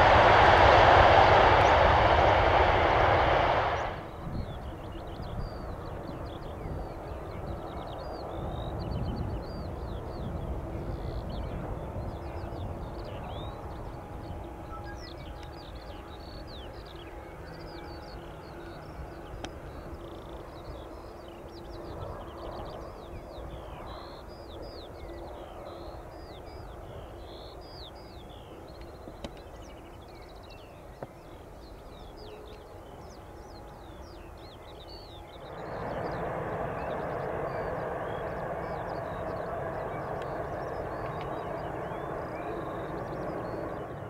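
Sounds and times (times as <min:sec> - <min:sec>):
steady low rumble: 0:00.0 - 0:27.5, 0:34.4 - 0:44.0
jet airliner approaching: 0:00.0 - 0:44.0.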